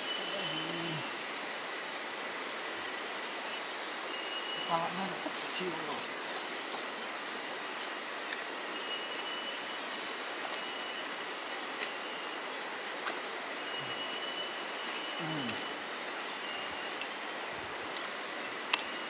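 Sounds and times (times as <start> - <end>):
higher insect call: 0.0 - 19.0
insects whining: 0.0 - 19.0.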